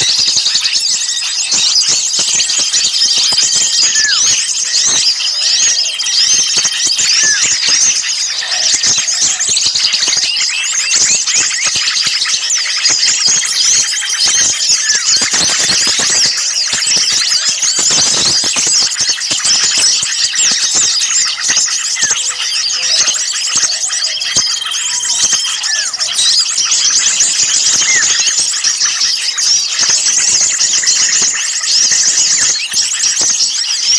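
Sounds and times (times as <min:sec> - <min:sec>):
small birds chattering and calling: 0:00.0 - 0:33.9.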